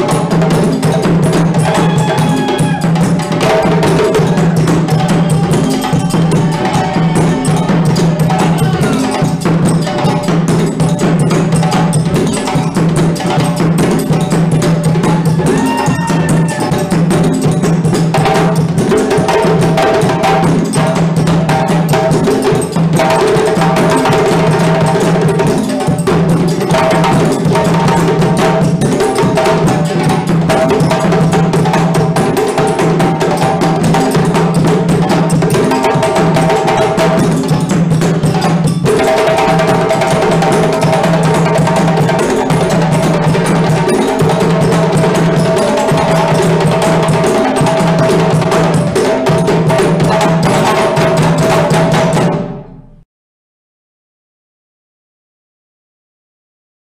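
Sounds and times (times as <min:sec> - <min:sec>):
hand drums playing rhythm: 0:00.0 - 0:52.6
stick-played bass drum: 0:00.0 - 0:53.0.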